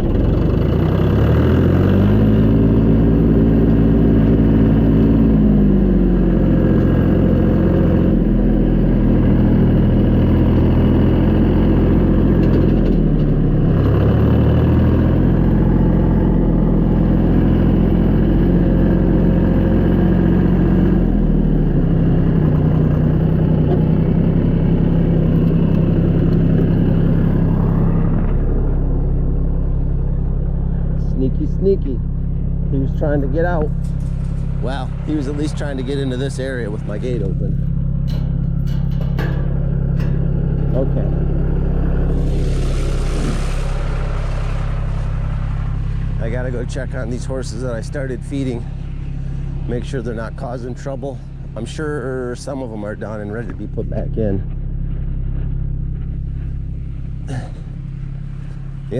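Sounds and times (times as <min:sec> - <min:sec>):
tractor engine revving: 0:00.0 - 0:58.9.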